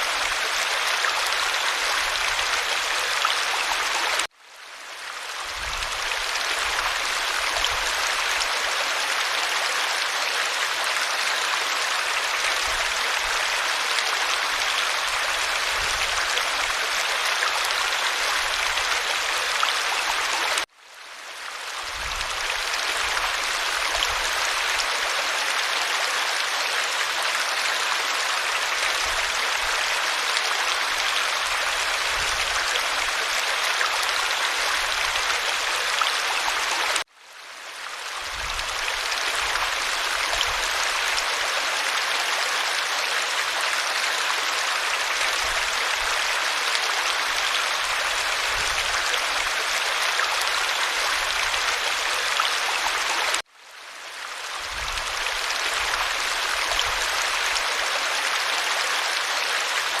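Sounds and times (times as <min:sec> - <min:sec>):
creek water rushing: 0:00.0 - 1:00.0.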